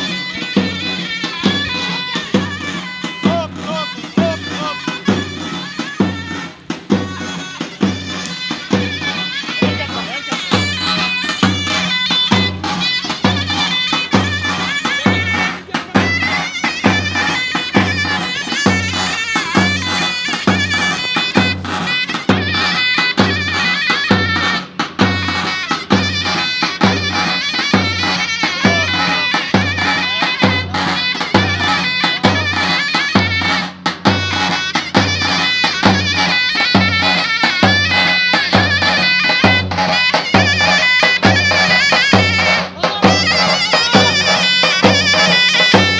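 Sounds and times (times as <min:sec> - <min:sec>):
drum beating steadily: 0:00.0 - 0:45.9
reed pipe melody: 0:00.0 - 0:45.9.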